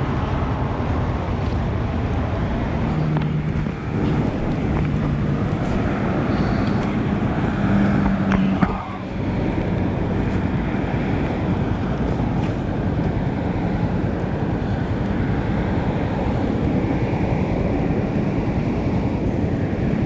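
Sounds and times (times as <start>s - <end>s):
motorcycle engine hum: 0.0s - 20.0s
tyres hissing on wet road: 0.0s - 20.0s
wind blasting microphone: 0.0s - 20.0s.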